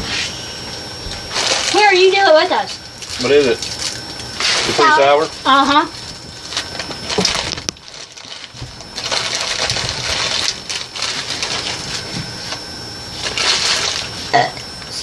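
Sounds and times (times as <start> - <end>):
plastic wrappers crinkling: 1.3 - 14.4.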